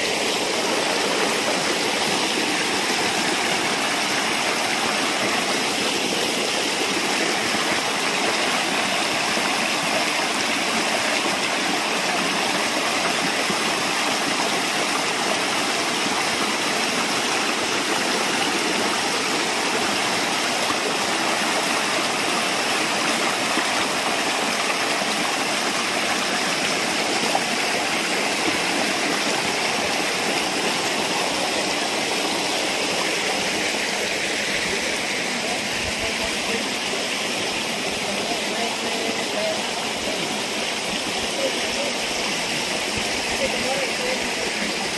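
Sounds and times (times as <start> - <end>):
stream rushing over rocks: 0.0 - 44.9.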